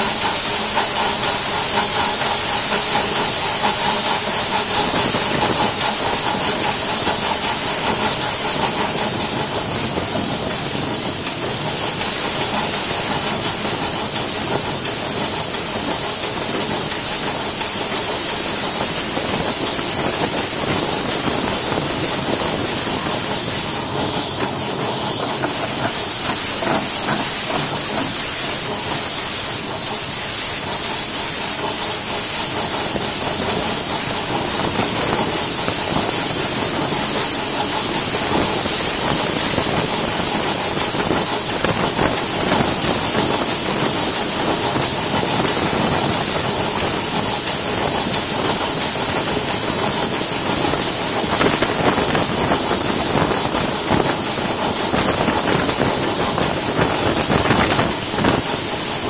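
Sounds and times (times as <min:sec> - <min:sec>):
steam locomotive hissing and running: 0:00.0 - 0:59.0.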